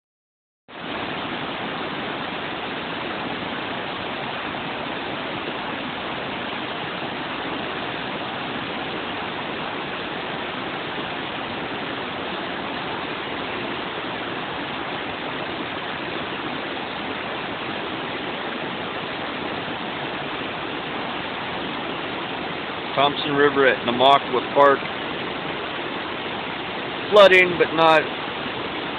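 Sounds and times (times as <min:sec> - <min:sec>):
river water rushing over weir: 0:00.7 - 0:28.9.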